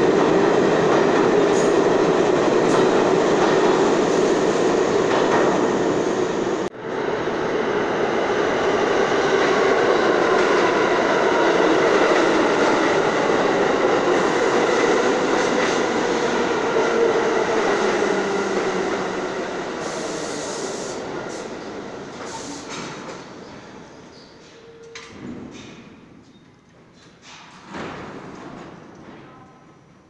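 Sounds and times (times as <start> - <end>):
subway train wheels and motors whining: 0.0 - 30.0.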